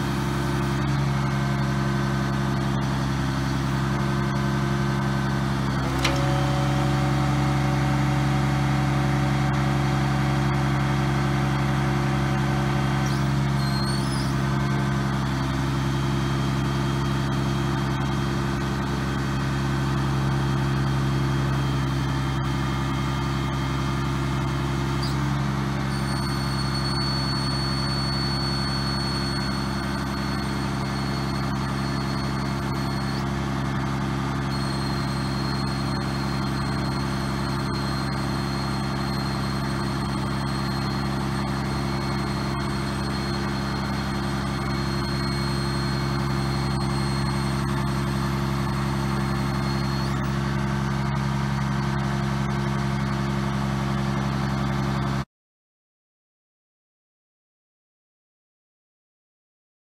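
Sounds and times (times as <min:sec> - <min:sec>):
diesel truck idling: 0:00.0 - 0:54.9.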